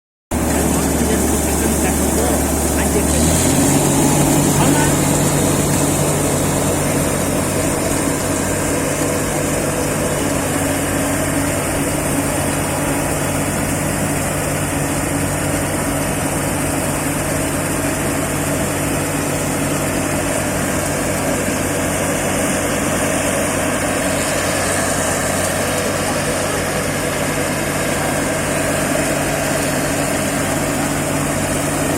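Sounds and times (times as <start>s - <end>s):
harvester engine running: 0.3s - 31.9s.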